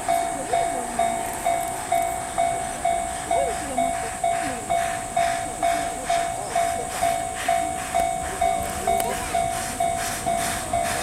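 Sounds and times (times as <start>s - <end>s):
level crossing warning bell: 0.0s - 11.0s.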